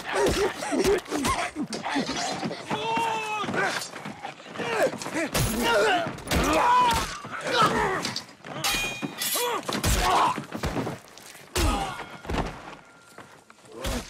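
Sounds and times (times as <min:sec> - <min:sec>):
men grunting and groaning: 0:00.0 - 0:10.6, 0:11.5 - 0:12.3.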